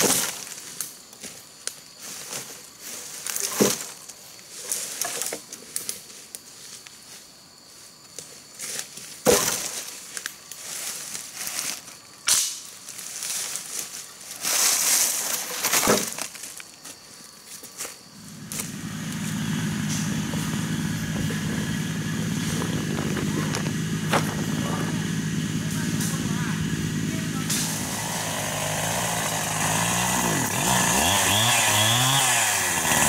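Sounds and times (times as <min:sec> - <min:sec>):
leaves and twigs crunching: 0:00.0 - 0:30.0.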